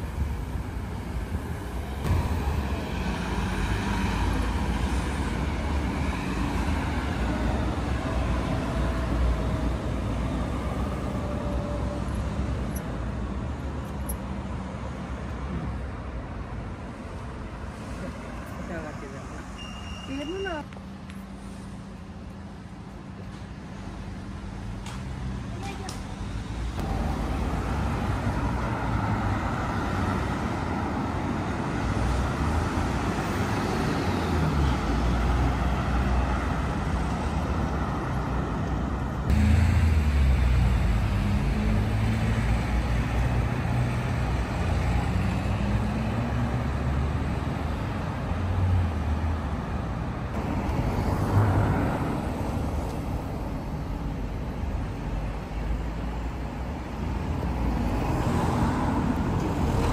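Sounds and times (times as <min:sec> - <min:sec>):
cars driving past: 0:00.0 - 0:59.9
low rumble of engines and tyres: 0:00.0 - 0:59.9.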